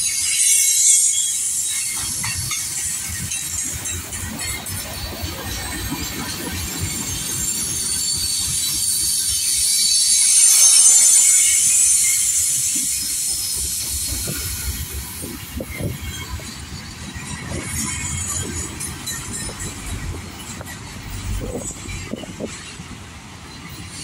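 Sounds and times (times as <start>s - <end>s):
train wheels squealing: 0.0s - 22.8s, 23.4s - 24.0s
wheels rumbling on rail: 0.0s - 24.0s.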